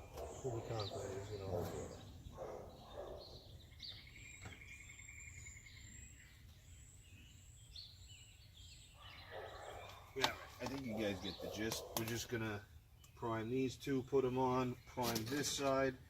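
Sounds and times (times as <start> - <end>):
bird trill: 0.0 - 15.8
birds chirping: 0.0 - 16.0.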